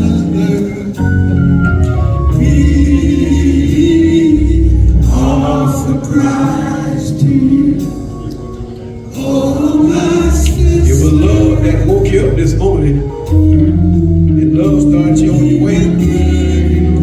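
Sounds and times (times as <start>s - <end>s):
choir singing held notes: 0.0s - 17.0s
instrumental accompaniment: 0.0s - 17.0s.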